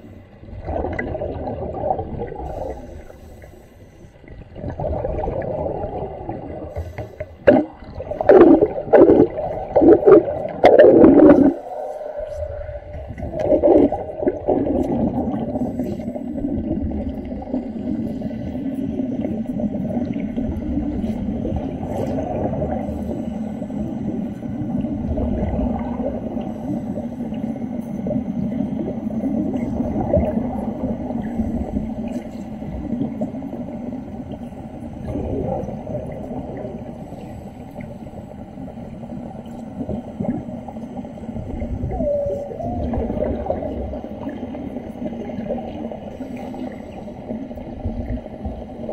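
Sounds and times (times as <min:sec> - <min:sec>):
underwater bubbling and gurgling: 0:00.0 - 0:48.9.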